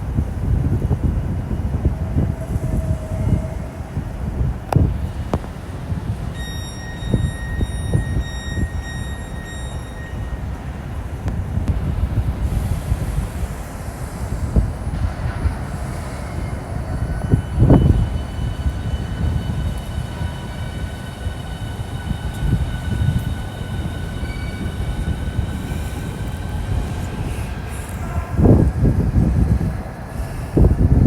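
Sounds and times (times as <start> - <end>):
high-pitched train whine: 0.0 - 31.0
train rumbling: 0.0 - 31.0.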